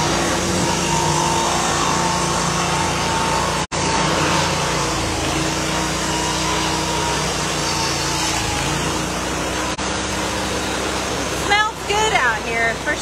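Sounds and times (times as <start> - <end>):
band sawmill running: 0.0 - 13.0.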